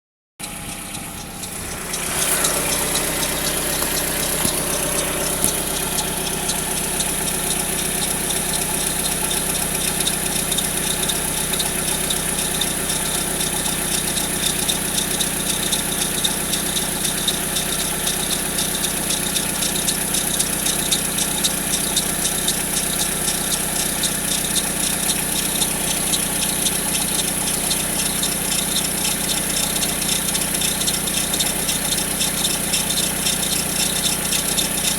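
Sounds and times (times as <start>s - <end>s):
car engine idling: 0.4s - 34.9s
fast ticking rattle: 0.4s - 34.9s.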